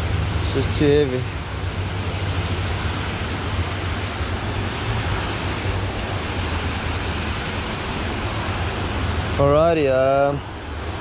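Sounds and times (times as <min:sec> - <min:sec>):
water rushing over dam wall: 0:00.0 - 0:11.0.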